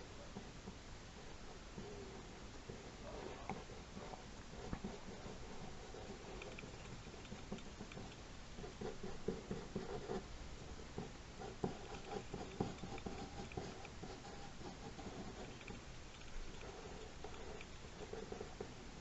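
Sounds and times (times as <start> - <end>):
pencil scratching on paper: 1.2 - 18.7.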